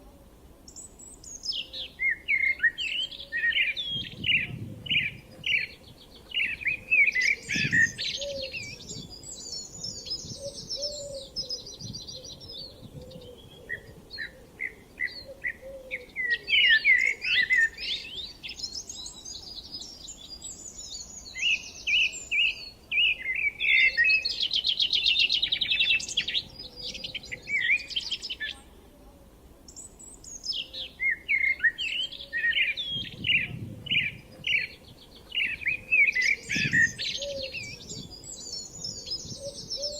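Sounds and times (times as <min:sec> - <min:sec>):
songbirds singing: 0:00.6 - 0:39.9.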